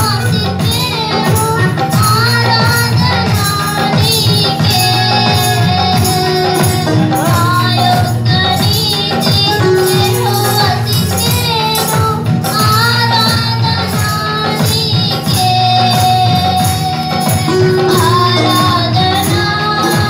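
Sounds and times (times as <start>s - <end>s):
amplified music with steady beat: 0.0s - 12.8s, 16.7s - 20.0s
woman singing into a microphone: 0.0s - 20.0s.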